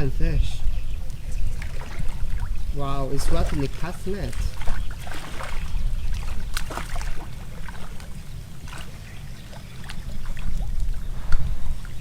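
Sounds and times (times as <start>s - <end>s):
water splashing and dripping: 1.0s - 12.0s.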